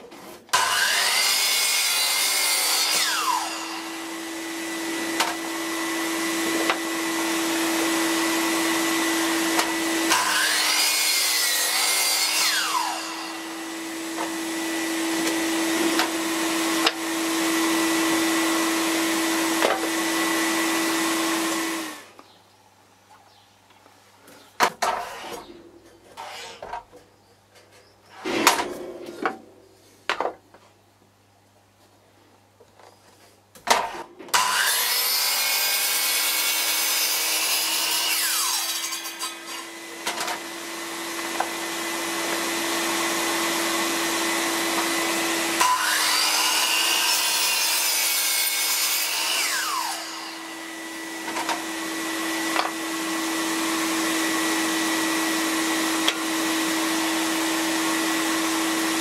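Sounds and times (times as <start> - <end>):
saw cutting wood: 0.2 - 22.2, 24.8 - 25.5, 26.1 - 26.7, 33.7 - 59.0.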